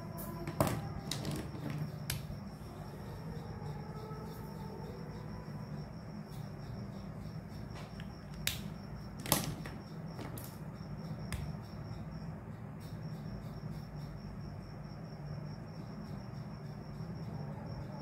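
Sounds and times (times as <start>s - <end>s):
faint high pulsing chirr: 0.0s - 18.0s.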